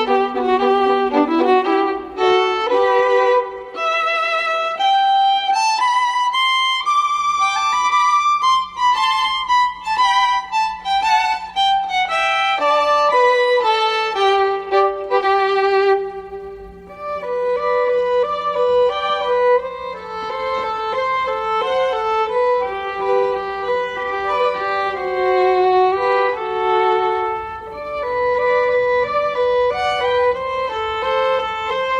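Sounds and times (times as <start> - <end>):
violin melody: 0.0 - 31.9.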